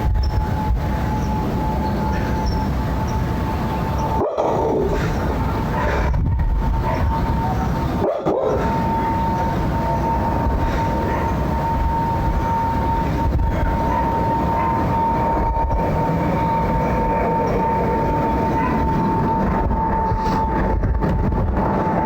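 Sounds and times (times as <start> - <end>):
jet roaring overhead: 0.0 - 22.0
steady howl: 0.0 - 22.0.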